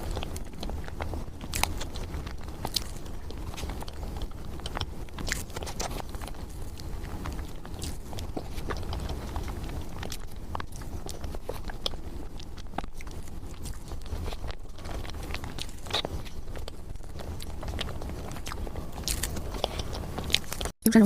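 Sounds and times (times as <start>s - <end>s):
small irregular clicks: 0.0s - 20.7s
chewing and wet mouth sounds: 0.0s - 21.0s.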